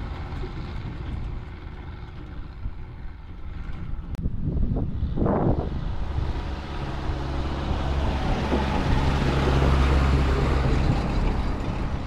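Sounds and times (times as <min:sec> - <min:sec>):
tractor diesel engine driving past: 0:00.0 - 0:12.0.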